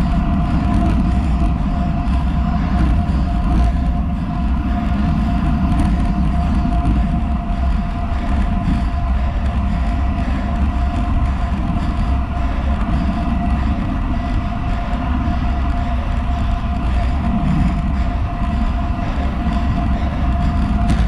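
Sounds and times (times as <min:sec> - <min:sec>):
thin steady whine: 0:00.0 - 0:21.0
wind buffeting microphone: 0:00.0 - 0:21.0.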